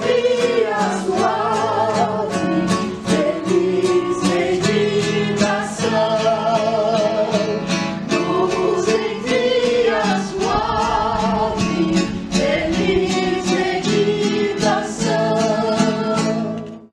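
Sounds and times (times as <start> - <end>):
person singing: 0.0 - 16.8
acoustic guitar strumming: 0.0 - 16.9.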